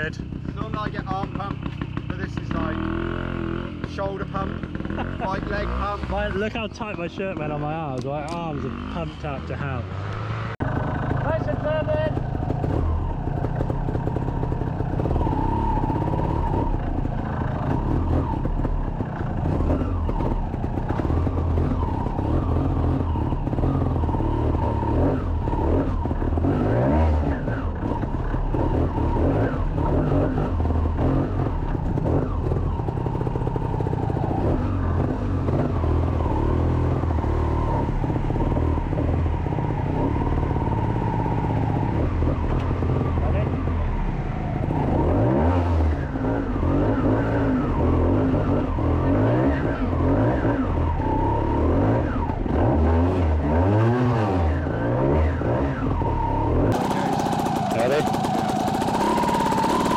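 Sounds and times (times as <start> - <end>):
two-stroke engine revving: 0.0 - 59.9.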